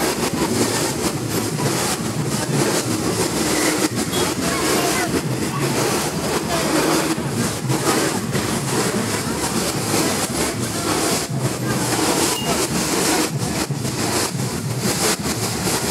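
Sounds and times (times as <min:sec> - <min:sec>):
crowd voices talking and calling: 0:00.0 - 0:15.9
street traffic rumble: 0:00.0 - 0:15.9.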